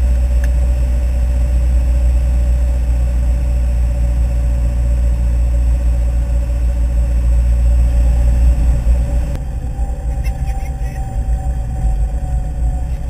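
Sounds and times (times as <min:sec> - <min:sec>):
airplane engine droning in cabin: 0:00.0 - 0:13.0.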